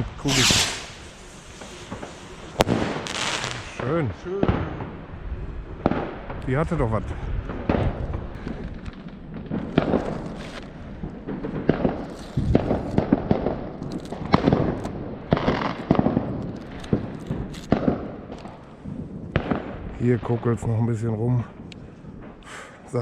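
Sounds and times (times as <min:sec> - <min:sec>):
firecracker bangs: 0:00.0 - 0:05.0, 0:05.8 - 0:20.4
fireworks crackling: 0:00.0 - 0:05.2, 0:05.8 - 0:23.0.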